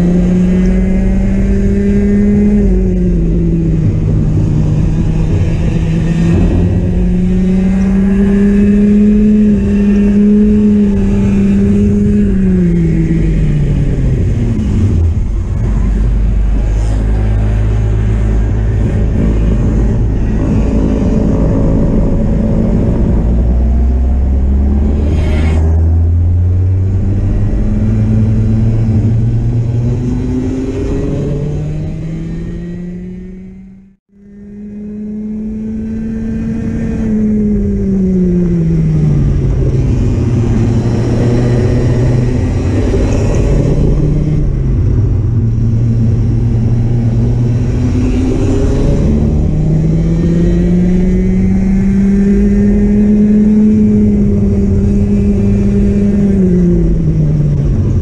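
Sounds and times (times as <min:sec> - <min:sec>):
racing kart engine accelerating: 0:00.0 - 0:58.0.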